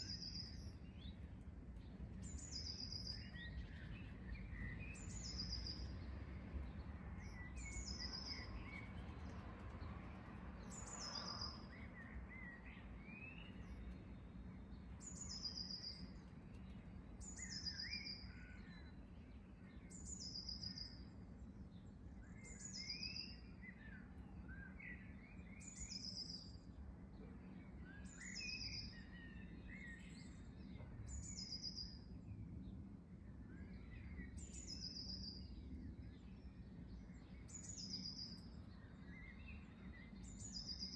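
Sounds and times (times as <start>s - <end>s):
birds chirping low: 0.0s - 9.4s, 10.6s - 40.9s.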